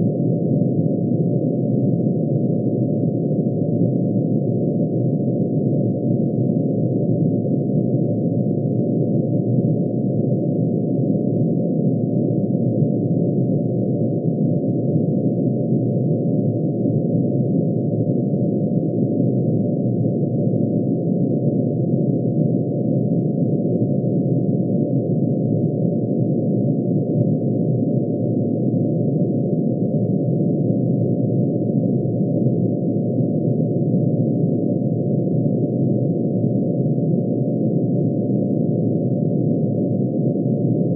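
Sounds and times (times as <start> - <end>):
synthesized sine tone drone: 0.0 - 40.9.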